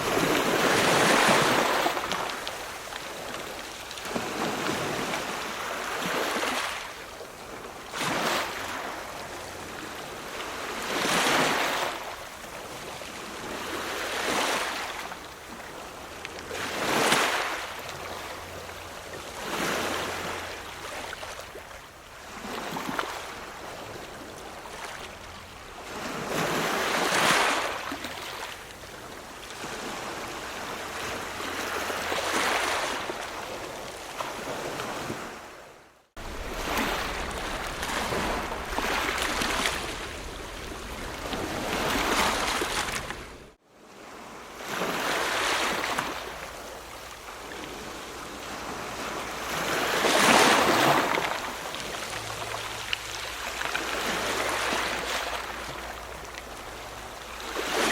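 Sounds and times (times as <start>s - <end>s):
ocean waves washing in: 0.0s - 57.9s.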